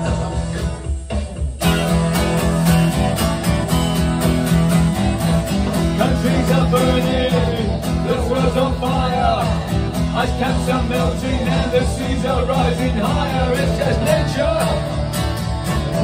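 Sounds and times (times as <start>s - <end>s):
song with electric guitar and beat: 0.0s - 16.0s.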